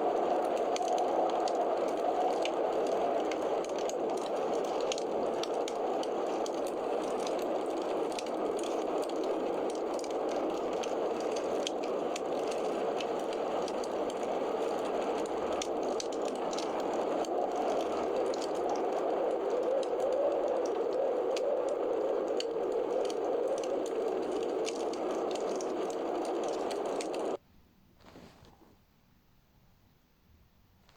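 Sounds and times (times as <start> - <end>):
fire crackling and popping: 0.0 - 27.4
fire flames hissing: 0.0 - 27.4.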